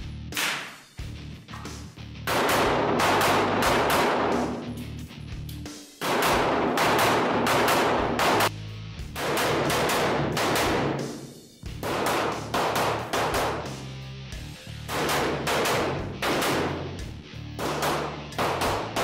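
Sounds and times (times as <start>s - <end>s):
background music with bass line: 0.0s - 19.0s
gunshots ringing in a room: 0.2s - 19.0s.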